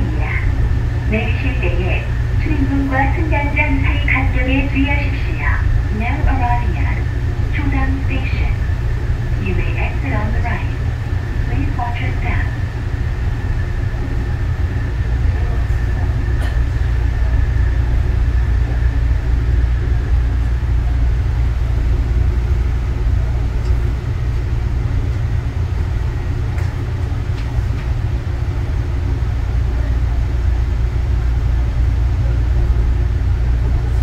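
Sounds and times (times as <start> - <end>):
train interior low rumble: 0.0 - 34.0.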